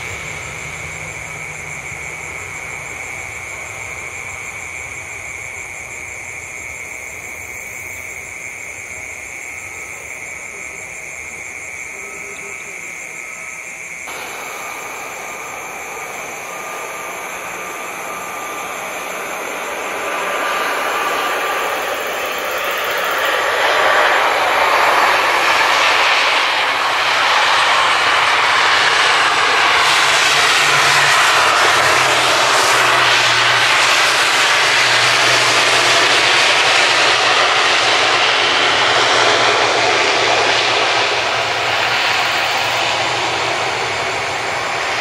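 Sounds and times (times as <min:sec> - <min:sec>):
airliner engines roaring: 0:00.0 - 0:45.0.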